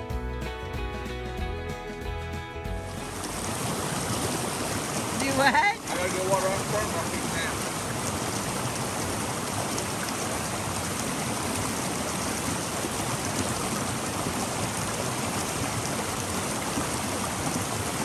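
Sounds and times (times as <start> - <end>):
stream of running water: 2.7 - 18.0.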